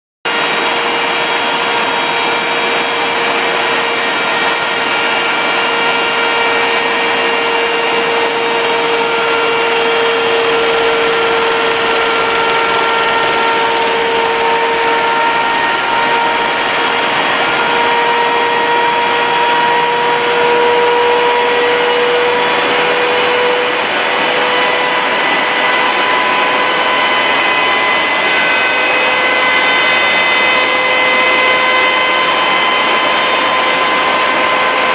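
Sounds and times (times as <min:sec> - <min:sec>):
cutting wood: 0:00.3 - 0:34.9
notching machine whining: 0:00.3 - 0:34.9.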